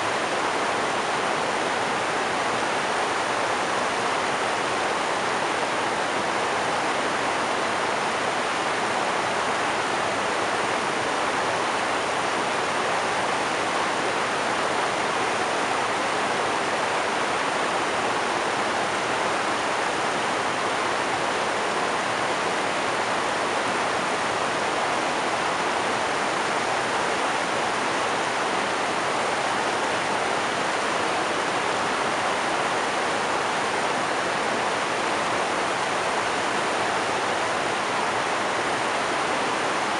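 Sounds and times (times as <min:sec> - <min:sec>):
river rapids rushing over rocks: 0:00.0 - 0:39.9.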